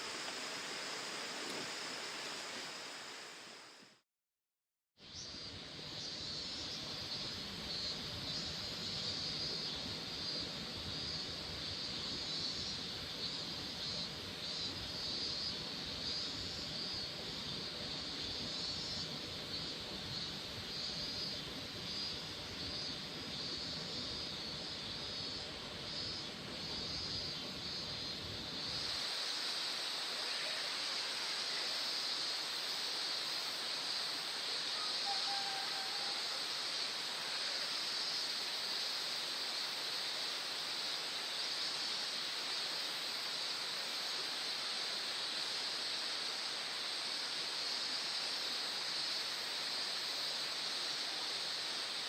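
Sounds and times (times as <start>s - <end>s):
stream running over rocks: 0.0s - 3.6s, 6.9s - 35.0s, 35.9s - 52.0s.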